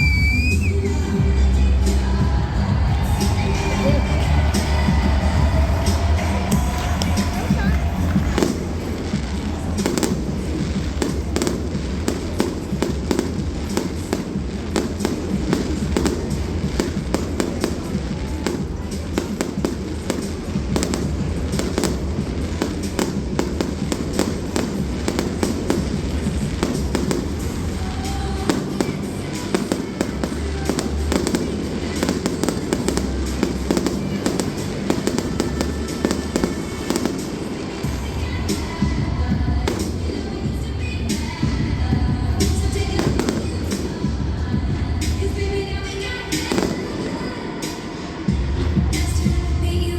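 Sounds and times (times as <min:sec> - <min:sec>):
fireworks bangs and crackles: 0:00.0 - 0:49.9
music playing: 0:00.0 - 0:49.9.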